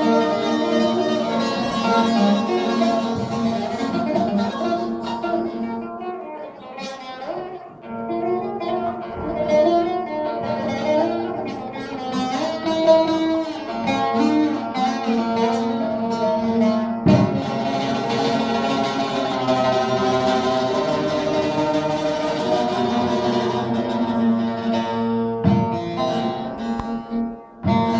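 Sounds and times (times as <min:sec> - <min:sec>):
plucked string music: 0:00.0 - 0:27.9.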